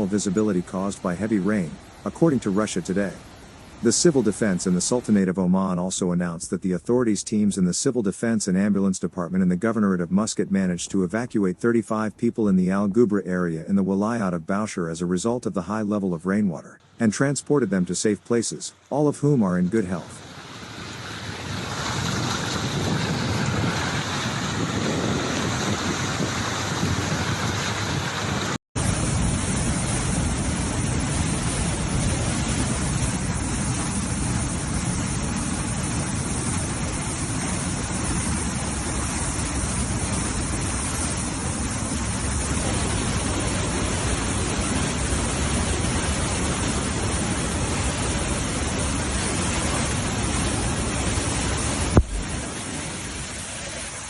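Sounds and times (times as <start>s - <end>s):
floodwater rushing: 0.0s - 12.6s, 15.2s - 54.0s.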